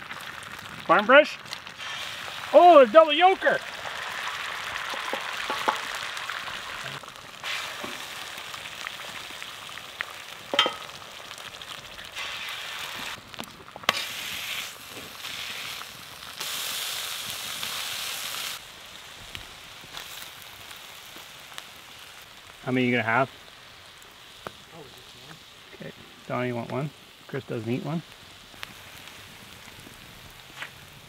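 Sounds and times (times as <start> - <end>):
eggs sizzling in oil: 0.0 - 31.0.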